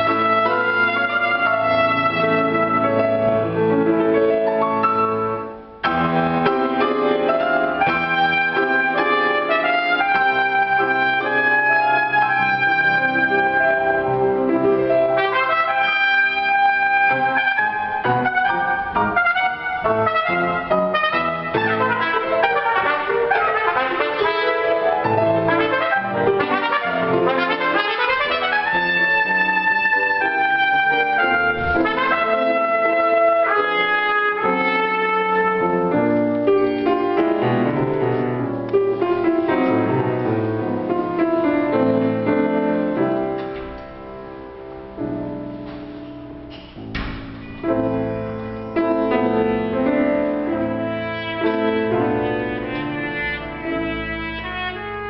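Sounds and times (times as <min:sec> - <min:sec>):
trumpet: 0:00.0 - 0:03.9, 0:05.8 - 0:43.0, 0:46.5 - 0:55.0
piano: 0:00.0 - 0:55.0.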